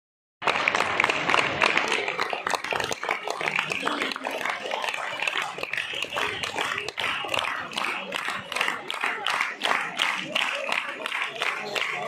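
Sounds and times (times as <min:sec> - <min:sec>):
crowd clapping: 0:00.4 - 0:12.0
voices: 0:01.0 - 0:12.0.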